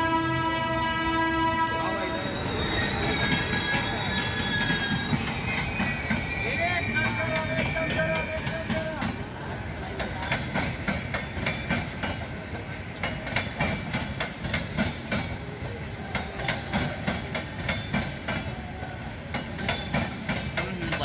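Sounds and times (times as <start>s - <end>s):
train coaches rumbling past: 0.0s - 21.0s
wheels clacking over rail joints: 2.6s - 18.6s, 19.2s - 21.0s.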